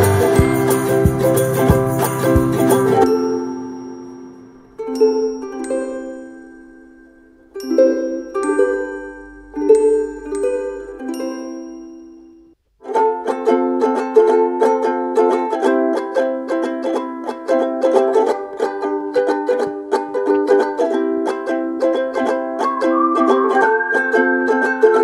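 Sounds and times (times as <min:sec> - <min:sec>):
plucked-string tune: 0:00.0 - 0:25.0.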